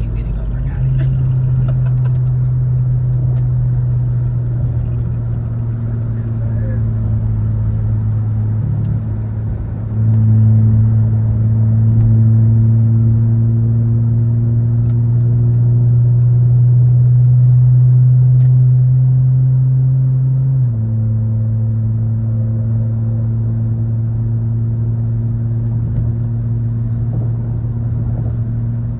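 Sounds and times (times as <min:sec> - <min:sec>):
car engine and exhaust droning: 0:00.0 - 0:28.9.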